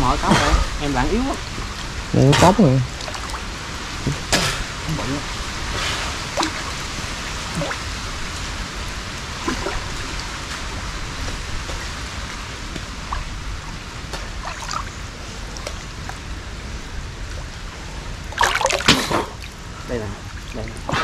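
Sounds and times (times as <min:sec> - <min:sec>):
small water splashes: 0:00.0 - 0:21.0
water trickling through culvert: 0:00.0 - 0:21.0.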